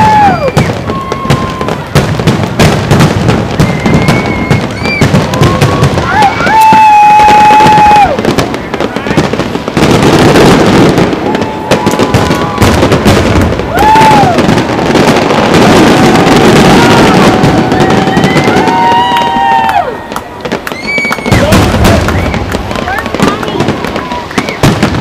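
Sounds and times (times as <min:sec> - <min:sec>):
fireworks bangs and crackle: 0:00.0 - 0:25.0.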